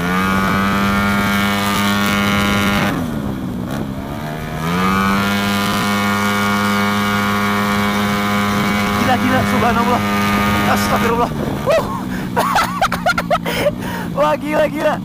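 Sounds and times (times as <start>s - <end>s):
scooter engine at high revs: 0.0s - 15.0s.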